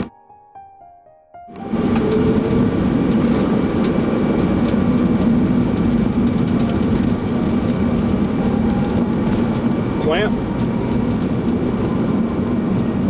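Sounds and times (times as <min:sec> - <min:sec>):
jet engine and rushing air: 0:01.5 - 0:13.0
low hum: 0:01.5 - 0:13.0.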